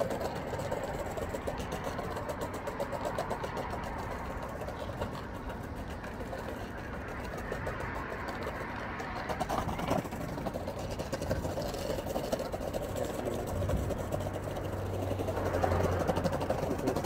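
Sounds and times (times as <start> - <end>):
longboard wheels rolling on pavement: 0.0 - 17.0.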